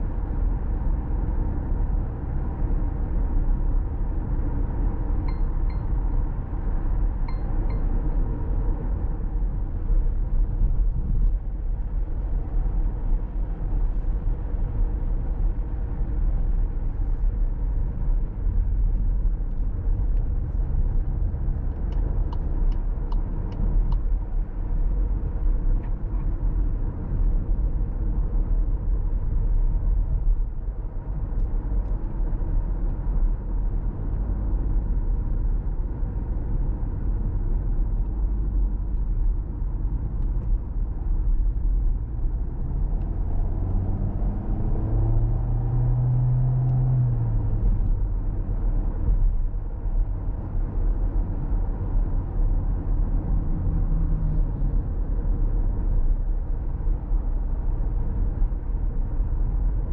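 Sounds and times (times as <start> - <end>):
car engine: 0.0 - 59.9
road and tyre rumble: 0.0 - 59.9.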